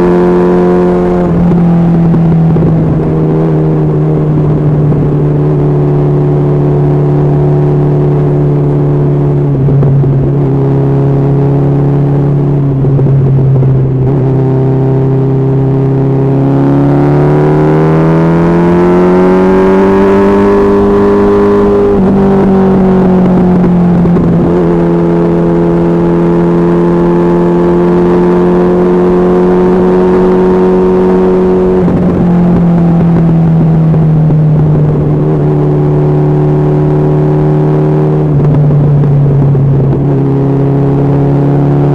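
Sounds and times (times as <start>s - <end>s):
motorcycle engine running: 0.0s - 41.9s
wind rumbling on microphone: 0.0s - 41.9s.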